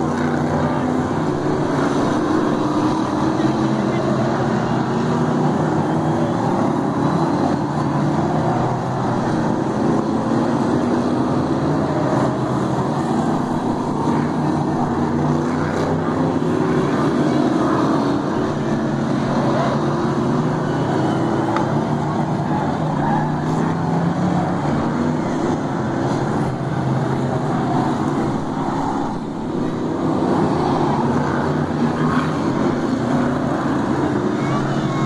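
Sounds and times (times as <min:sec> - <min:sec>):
race car engines passing: 0:00.0 - 0:35.0.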